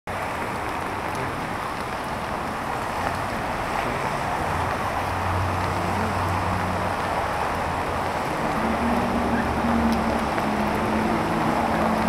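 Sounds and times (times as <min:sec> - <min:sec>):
car tyres on wet street: 0:00.1 - 0:12.0
rain hissing: 0:00.1 - 0:12.0
traffic engine hum: 0:00.1 - 0:12.0.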